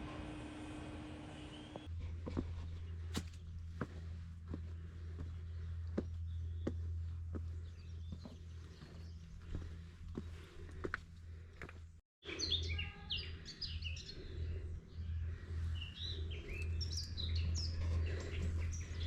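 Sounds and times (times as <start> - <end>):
steady low hum: 0.0 - 12.0, 13.2 - 19.0
songbirds chirping and trilling: 1.2 - 19.0.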